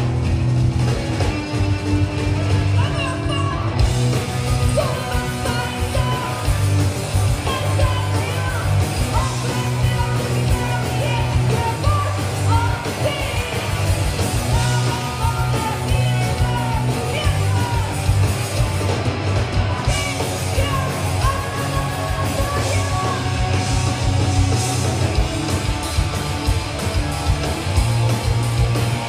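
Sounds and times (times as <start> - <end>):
punk rock song: 0.0 - 29.0
yelled vocals: 2.6 - 29.0.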